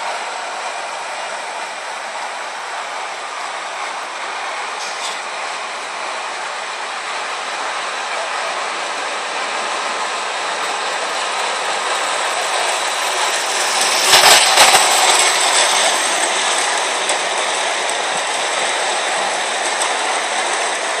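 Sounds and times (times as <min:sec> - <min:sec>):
model train wheels rattling on rail: 0:00.0 - 0:21.0.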